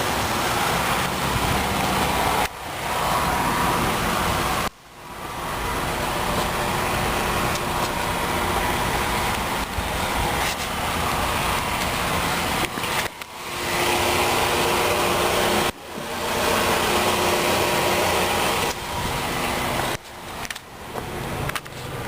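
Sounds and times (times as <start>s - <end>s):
car engine idling: 0.0s - 22.0s
steady rushing noise: 0.0s - 22.0s.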